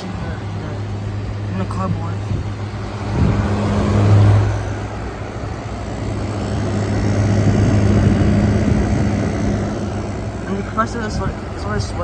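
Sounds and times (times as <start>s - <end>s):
air conditioner compressor hum: 0.0s - 12.0s
fan airflow rushing: 0.0s - 12.0s.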